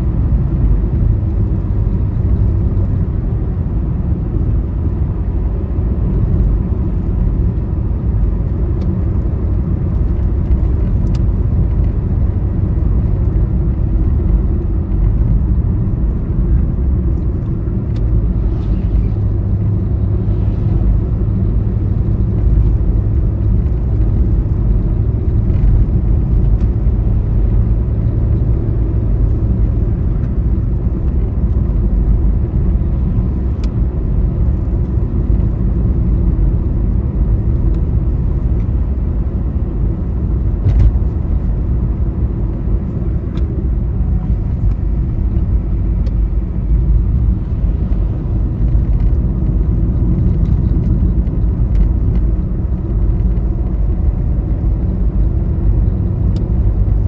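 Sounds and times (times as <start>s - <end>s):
vehicle engine and tyres rumbling: 0.0s - 57.0s.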